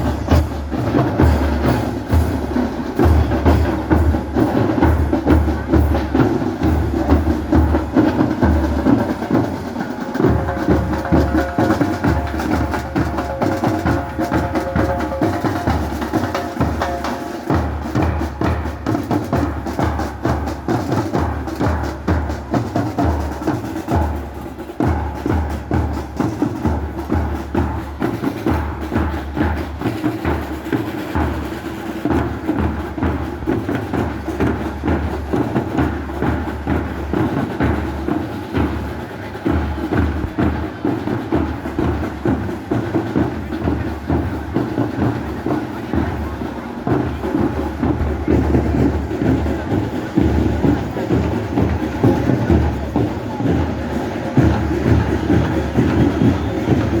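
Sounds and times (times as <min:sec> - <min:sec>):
rattling snare drum: 0:00.0 - 0:57.0.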